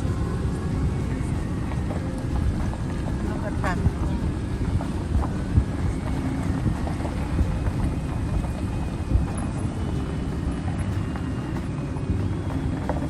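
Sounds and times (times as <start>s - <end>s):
road and engine noise: 0.0s - 13.0s.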